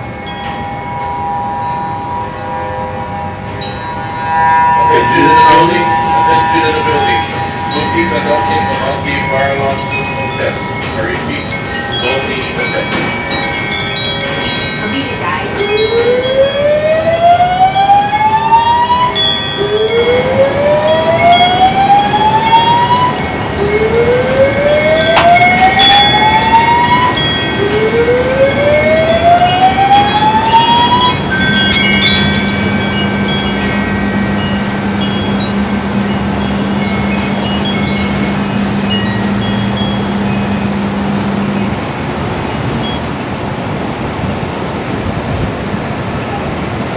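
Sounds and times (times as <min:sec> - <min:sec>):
fire alarm slow whoop: 0:00.0 - 0:12.7, 0:13.3 - 0:41.8
faint chime-like pings: 0:00.0 - 0:16.9, 0:18.1 - 0:41.8
steady low hum: 0:00.0 - 0:44.2.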